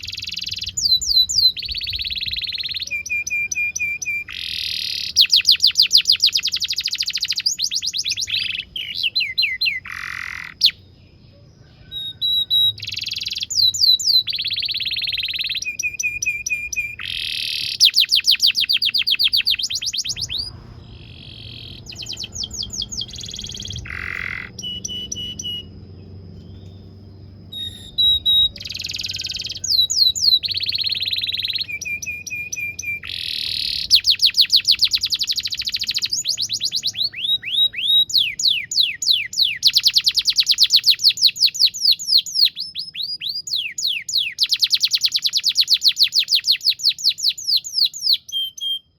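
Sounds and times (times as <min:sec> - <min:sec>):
canary singing trills and whistles: 0:00.0 - 0:48.9.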